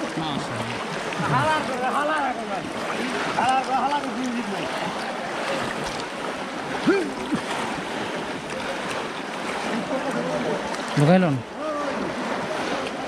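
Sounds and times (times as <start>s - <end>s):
churning river water: 0.0s - 13.0s.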